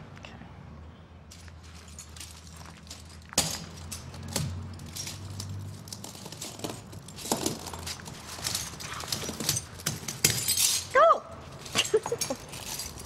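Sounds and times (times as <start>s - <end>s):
glass shards crunching underfoot: 1.3s - 13.0s.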